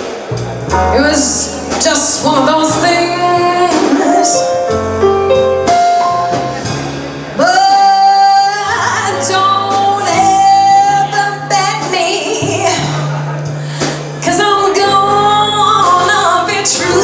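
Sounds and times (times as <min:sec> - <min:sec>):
light drums and cymbals: 0:00.0 - 0:17.0
walking bass: 0:00.0 - 0:17.0
woman singing jazz: 0:00.7 - 0:06.6, 0:07.4 - 0:17.0.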